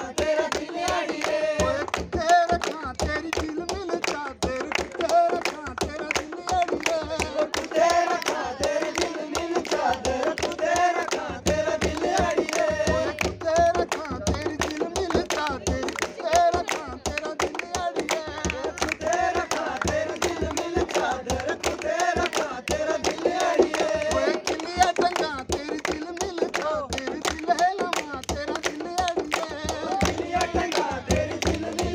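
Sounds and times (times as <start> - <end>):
hand claps keeping time: 0.0 - 31.9
man singing: 1.6 - 8.3, 11.4 - 31.9.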